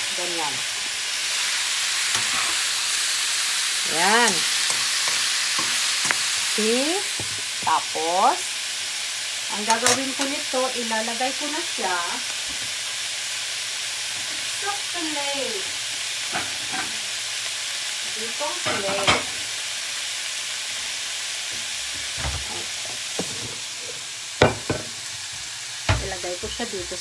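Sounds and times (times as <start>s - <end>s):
food sizzling in wok: 0.0s - 27.0s.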